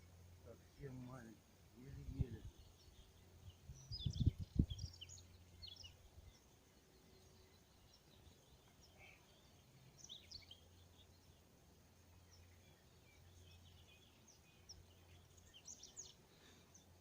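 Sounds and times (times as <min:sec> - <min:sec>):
faint outdoor background: 0:00.0 - 0:17.0
small birds chirping: 0:00.0 - 0:17.0.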